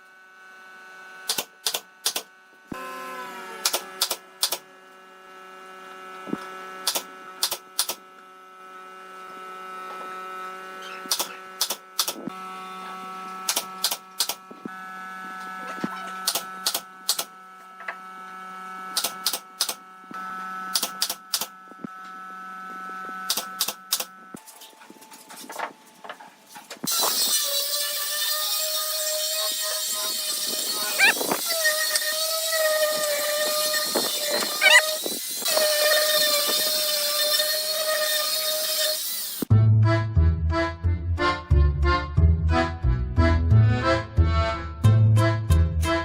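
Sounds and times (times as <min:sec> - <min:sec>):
mechanical hum: 0:00.0 - 0:39.5.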